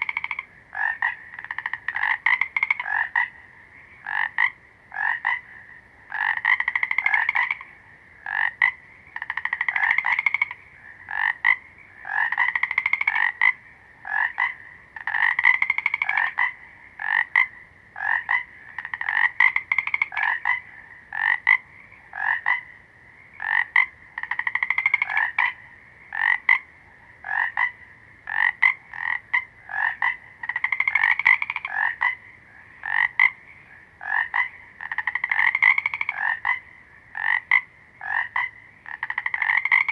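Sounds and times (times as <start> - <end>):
frog trilling calls: 0.0 - 39.9.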